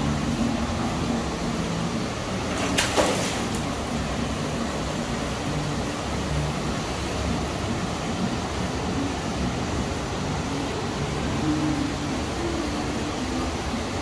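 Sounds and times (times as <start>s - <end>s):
continuous hiss: 0.0s - 14.0s.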